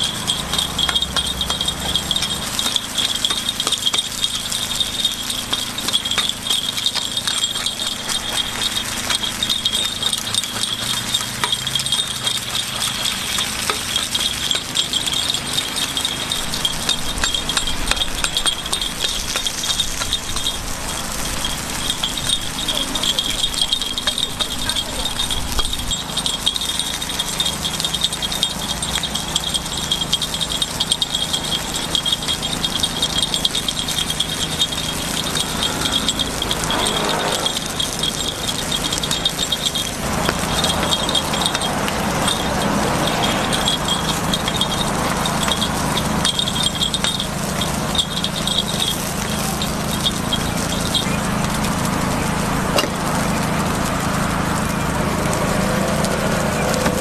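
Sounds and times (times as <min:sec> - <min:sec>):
metal picks clicking against pan: 0:00.0 - 0:54.0.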